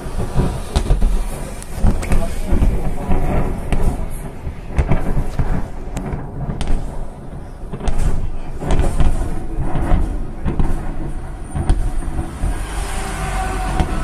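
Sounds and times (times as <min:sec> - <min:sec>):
distant explosions rumbling: 0:00.0 - 0:14.0
dull booms and thuds: 0:00.0 - 0:14.0.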